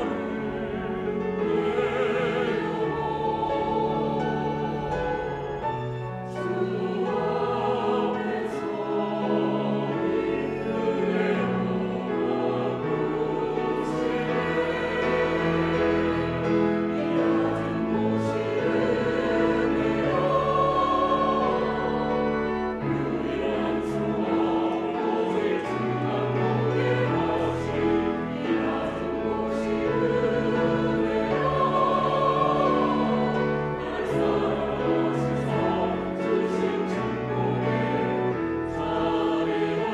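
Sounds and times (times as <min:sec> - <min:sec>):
choir singing in harmony: 0:00.0 - 0:39.9
piano: 0:00.0 - 0:39.9.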